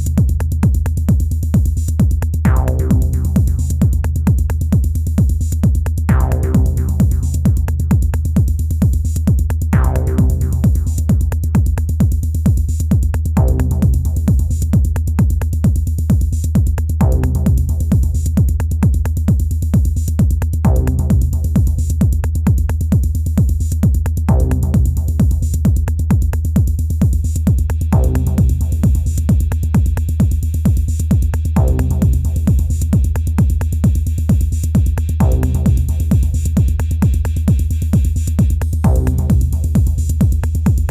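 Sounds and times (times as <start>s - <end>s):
deep constant bass: 0.0s - 40.9s
techno drum machine beat: 0.0s - 40.9s.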